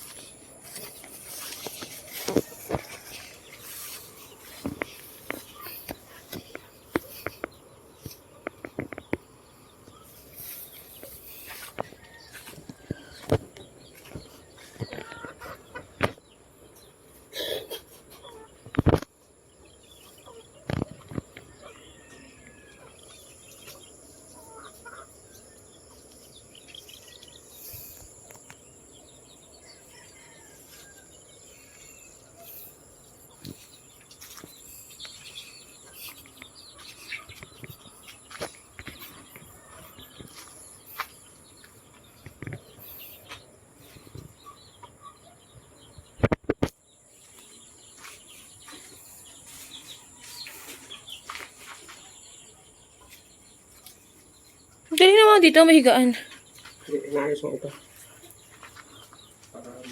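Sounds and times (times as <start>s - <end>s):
chickens clucking: 0.0s - 55.7s, 56.3s - 59.9s
small birds chirping: 0.0s - 59.9s.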